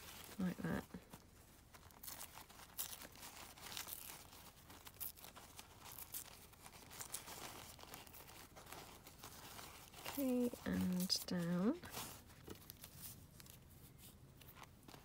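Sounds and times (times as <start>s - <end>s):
paper napkin rustling and crinkling: 0.0s - 15.0s.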